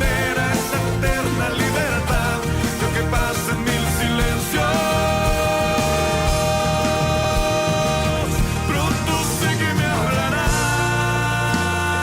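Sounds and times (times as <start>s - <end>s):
instrumental pop rock music: 0.0s - 12.0s.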